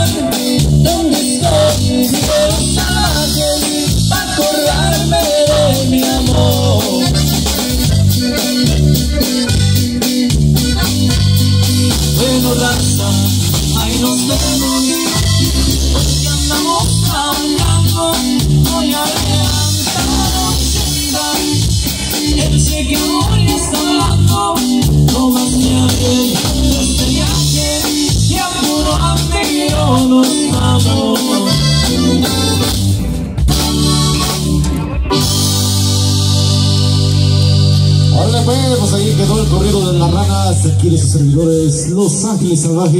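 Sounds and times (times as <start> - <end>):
man singing: 0.0 - 32.4, 38.1 - 42.9
button accordion: 0.0 - 41.1
bass line: 0.0 - 42.9
drums steady beat: 0.0 - 42.9
guitar: 0.0 - 42.9
keyboard: 0.0 - 42.9.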